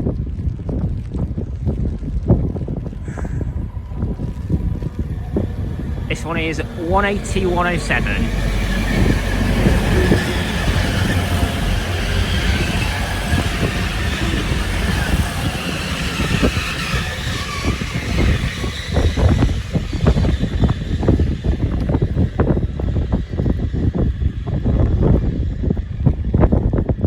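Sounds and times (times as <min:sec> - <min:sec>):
wind buffeting microphone: 0:00.0 - 0:27.0
diesel train rumbling: 0:01.0 - 0:27.0.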